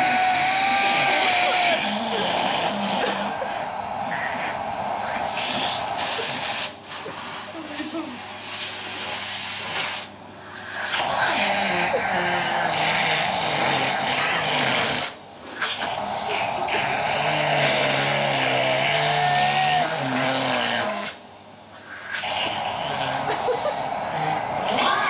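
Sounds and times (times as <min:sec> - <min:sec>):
vacuum cleaner running: 0:00.0 - 0:21.3, 0:21.9 - 0:25.0.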